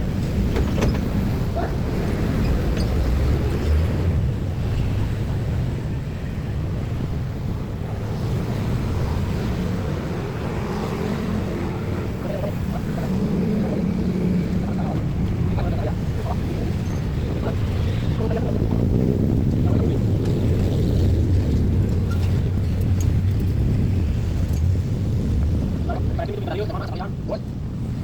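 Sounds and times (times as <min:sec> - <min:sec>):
passing vehicles rumble: 0:00.0 - 0:28.0
wind buffeting microphone: 0:00.0 - 0:28.0.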